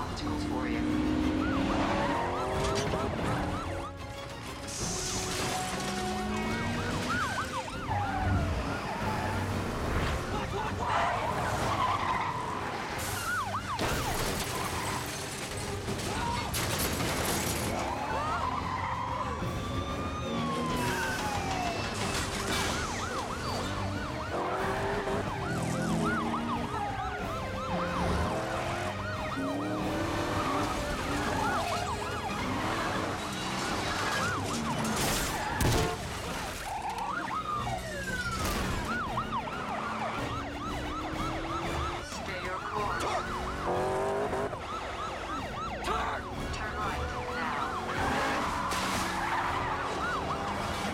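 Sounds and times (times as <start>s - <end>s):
car engines: 0.0s - 50.9s
police sirens wailing: 0.0s - 50.9s.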